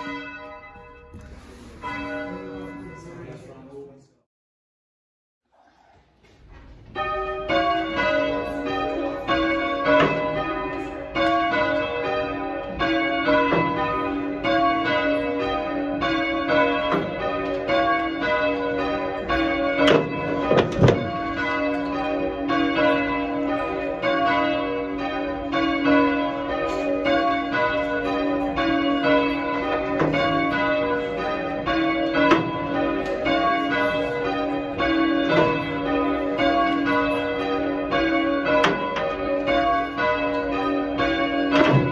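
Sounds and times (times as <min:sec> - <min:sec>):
bell rope thump: 0:00.0 - 0:03.1, 0:06.6 - 0:41.9
church bells ringing: 0:00.0 - 0:04.1, 0:06.8 - 0:41.9.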